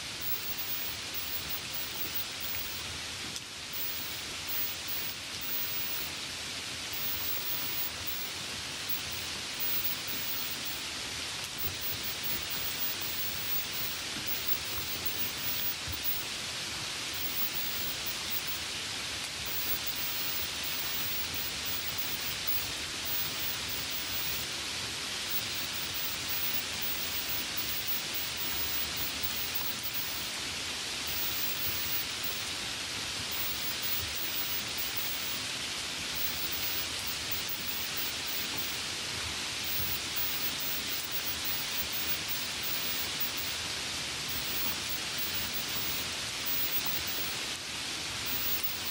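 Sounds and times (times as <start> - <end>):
light rain falling: 0.0 - 48.9.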